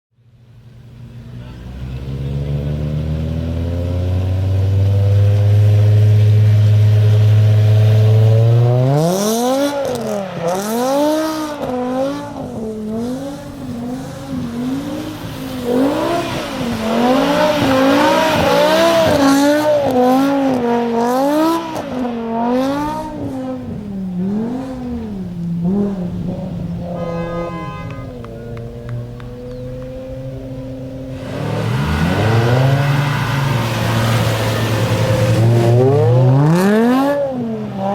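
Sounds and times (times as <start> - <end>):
car engine revving: 0.4 - 37.9.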